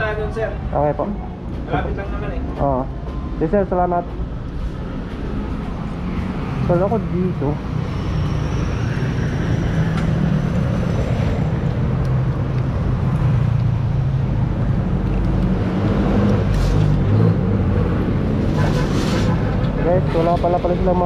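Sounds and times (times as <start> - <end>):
traffic and road noise: 0.0 - 21.0.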